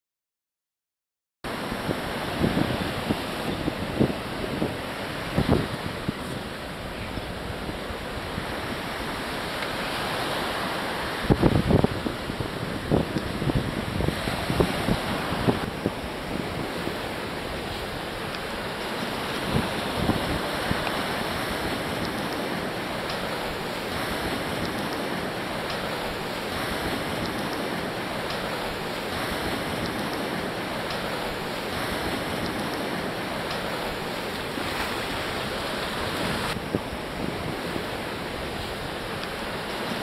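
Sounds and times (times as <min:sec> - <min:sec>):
ocean surf on a beach: 0:01.5 - 0:40.0
wind buffeting the microphone: 0:01.5 - 0:40.0.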